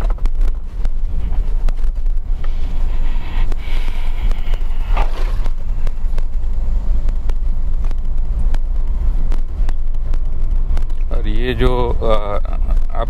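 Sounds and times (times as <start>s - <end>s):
car rumbling over rough road: 0.0s - 13.0s.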